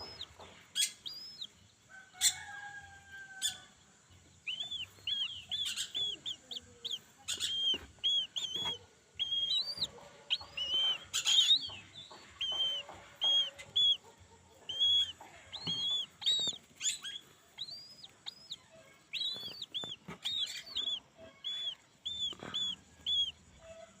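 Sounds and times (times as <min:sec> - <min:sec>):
bird chick high peeps: 0:00.0 - 0:24.0.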